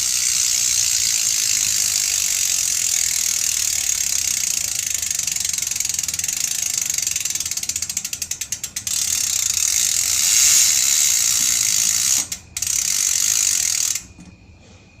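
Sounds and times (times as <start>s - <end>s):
bicycle hub ratchet clicking: 0.0s - 14.3s.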